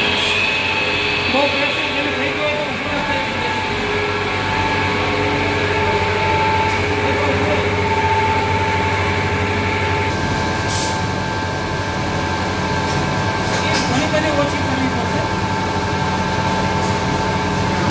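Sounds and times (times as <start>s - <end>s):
machine motors humming: 0.0s - 17.9s.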